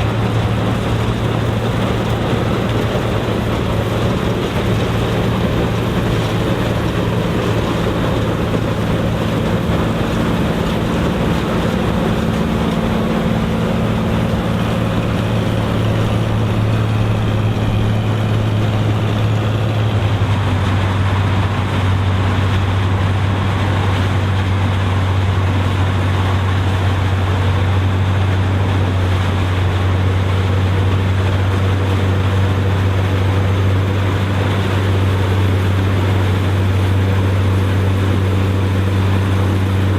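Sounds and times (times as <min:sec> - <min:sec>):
combine engine drone: 0:00.0 - 0:39.9.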